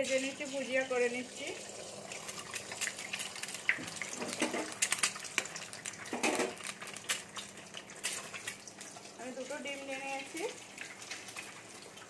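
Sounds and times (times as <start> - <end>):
eggs sizzling in hot oil: 0.0 - 12.0
oil crackling and popping: 0.0 - 12.0.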